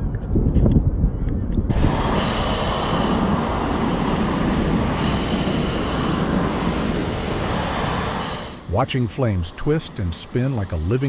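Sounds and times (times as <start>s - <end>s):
fire whirl roaring: 1.6s - 11.0s.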